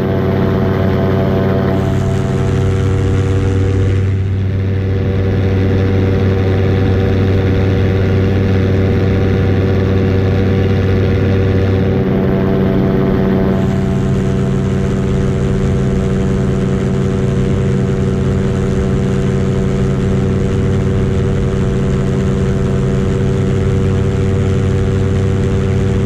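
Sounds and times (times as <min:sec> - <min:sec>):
paramotor engine drone: 0:00.0 - 0:26.0.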